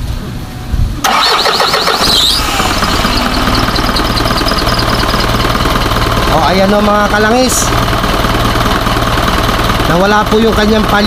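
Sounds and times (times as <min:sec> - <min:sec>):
diesel engine idling: 0:01.0 - 0:11.0
starter cranking: 0:01.1 - 0:10.3.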